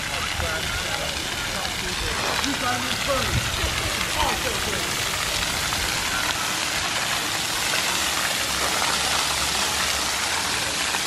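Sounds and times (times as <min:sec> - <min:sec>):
water jets spraying: 0:00.0 - 0:11.0.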